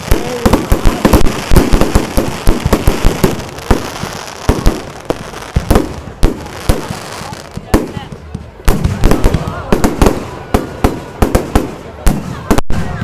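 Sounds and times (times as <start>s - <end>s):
fireworks bangs: 0.0s - 13.0s
fireworks crackle: 0.0s - 13.0s.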